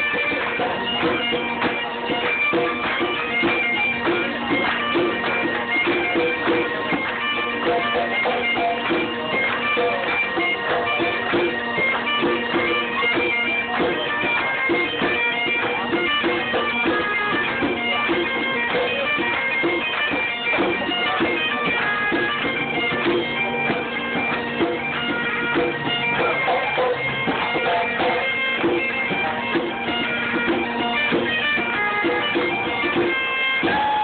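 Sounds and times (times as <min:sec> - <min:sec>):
quick folk melody: 0:00.0 - 0:34.0.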